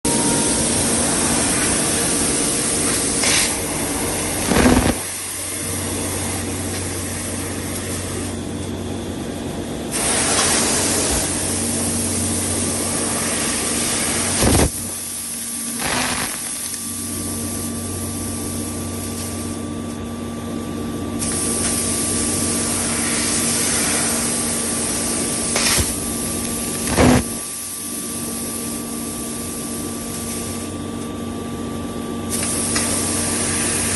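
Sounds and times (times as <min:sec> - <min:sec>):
low machine hum: 0:00.0 - 0:33.9
laser cutter hiss: 0:00.1 - 0:08.6, 0:09.9 - 0:19.6, 0:21.2 - 0:30.8, 0:32.3 - 0:33.9.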